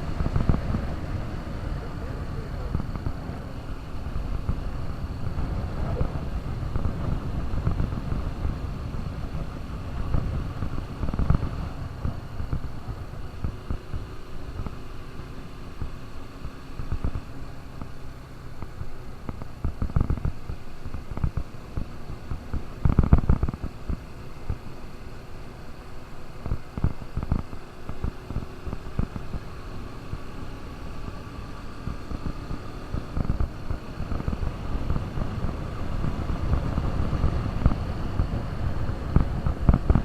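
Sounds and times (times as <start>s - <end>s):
motorcycle engine droning: 0.0s - 40.0s.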